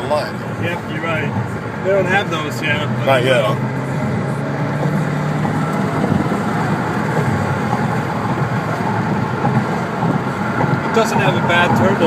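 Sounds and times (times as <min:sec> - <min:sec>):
car engine hum: 0:00.0 - 0:12.0
tyre and road noise: 0:00.0 - 0:12.0.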